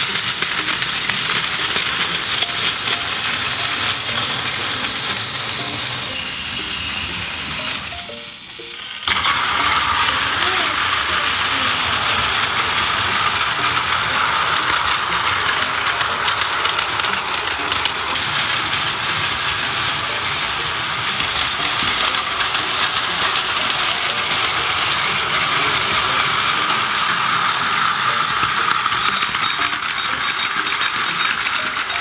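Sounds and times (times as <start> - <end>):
toy train motor whine: 0.0 - 32.0
wheels clicking over plastic track: 0.0 - 32.0.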